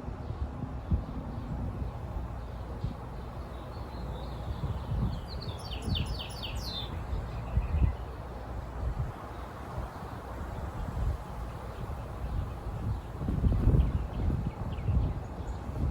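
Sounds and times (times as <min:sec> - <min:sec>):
songbird singing: 0:00.3 - 0:15.9.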